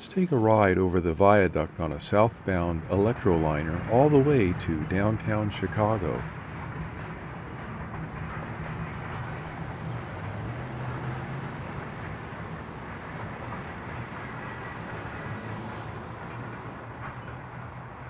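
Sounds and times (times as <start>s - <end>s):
electric train running on track: 0.0s - 18.0s.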